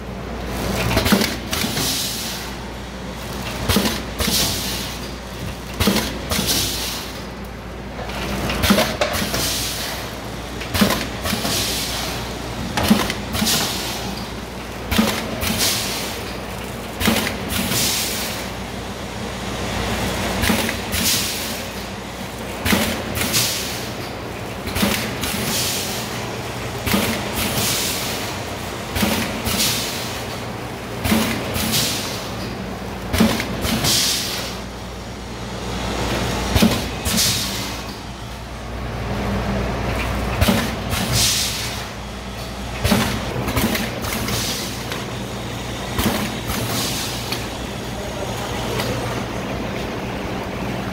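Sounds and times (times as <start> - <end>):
steady machine hum: 0.0 - 50.9
packing machine clack: 0.5 - 18.8, 19.9 - 34.9, 36.0 - 38.4, 39.8 - 50.9.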